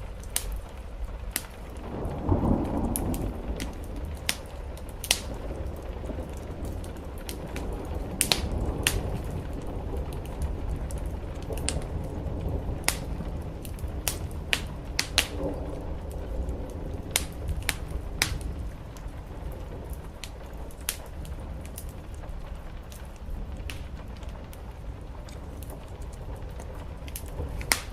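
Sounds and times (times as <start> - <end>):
sharp fire pops: 0.0 - 27.9
wood fire crackling: 0.0 - 27.9.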